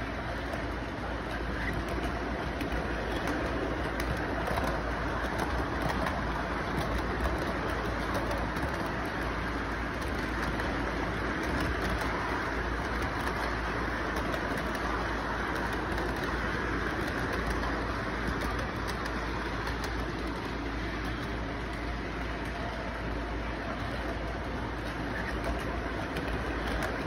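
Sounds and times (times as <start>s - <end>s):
background noise with low hum: 0.0s - 27.0s
model train cars rolling: 0.0s - 27.0s.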